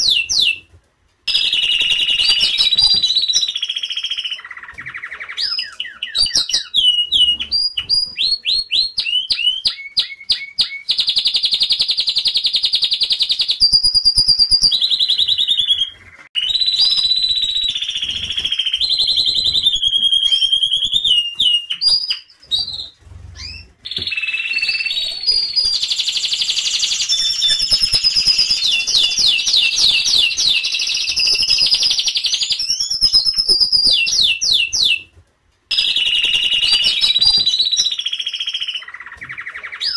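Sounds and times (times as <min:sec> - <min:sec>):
canary singing trills: 0:01.3 - 0:35.1, 0:35.7 - 0:39.9.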